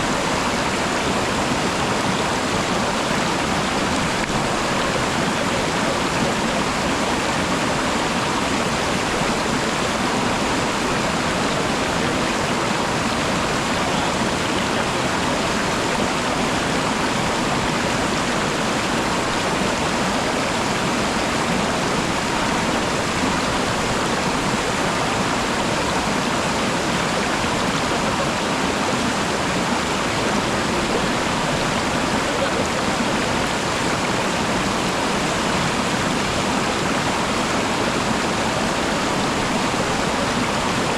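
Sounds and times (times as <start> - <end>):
waterfall rushing water: 0.0 - 40.9.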